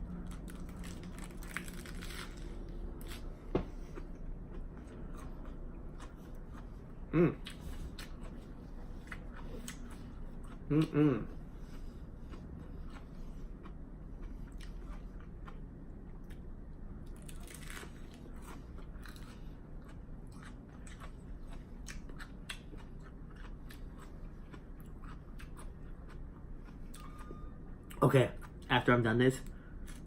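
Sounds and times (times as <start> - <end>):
chewing crisp lettuce: 0.1 - 28.7, 29.4 - 30.0.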